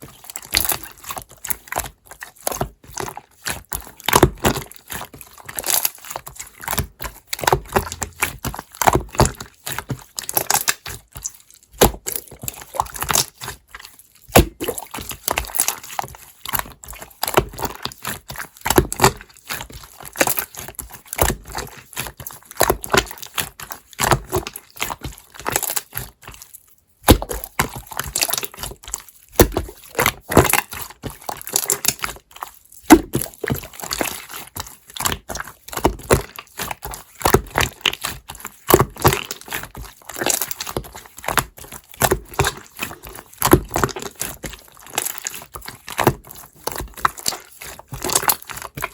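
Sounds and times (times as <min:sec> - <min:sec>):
slime squishing with wet clicks: 0:00.0 - 0:48.9.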